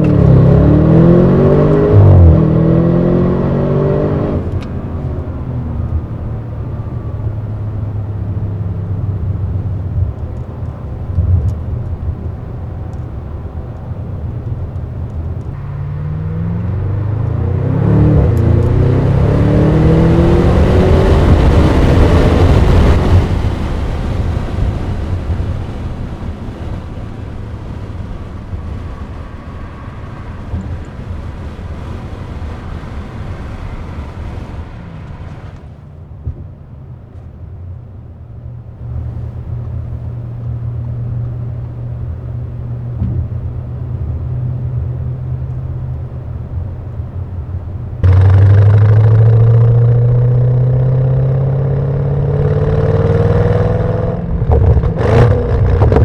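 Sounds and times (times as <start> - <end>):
car engine and exhaust revving: 0.0 - 56.0.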